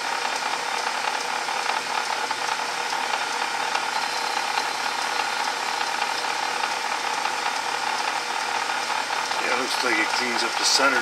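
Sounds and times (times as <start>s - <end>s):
lathe tool cutting brass: 0.0s - 11.0s
metal lathe motor whirring: 0.0s - 11.0s.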